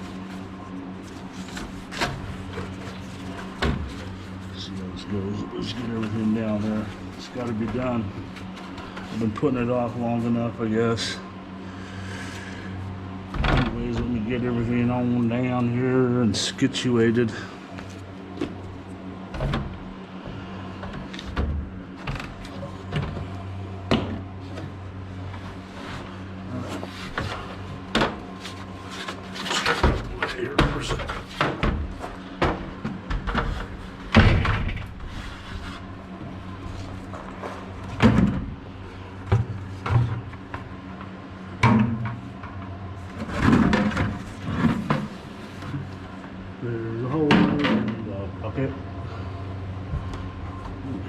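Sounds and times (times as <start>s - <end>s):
drying fans humming: 0.0s - 51.0s.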